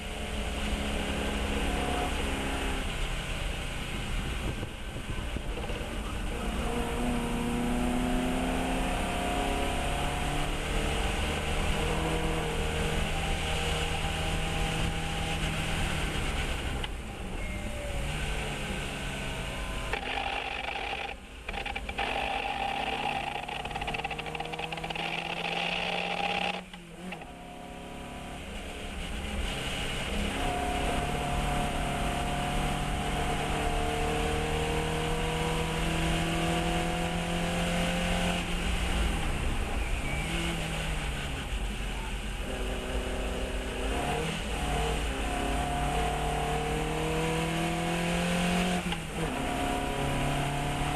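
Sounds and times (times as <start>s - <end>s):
race car engine revving: 5.7s - 16.8s, 18.0s - 50.9s.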